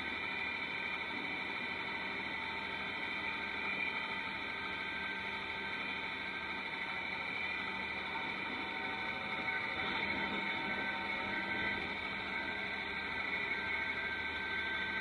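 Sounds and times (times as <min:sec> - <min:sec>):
steady machine whine: 0:00.0 - 0:15.0
tractor and baler droning: 0:00.0 - 0:15.0.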